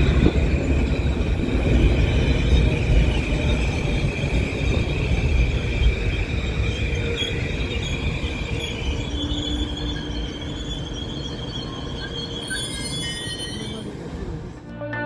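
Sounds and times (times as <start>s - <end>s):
train rumbling past: 0.0s - 14.7s.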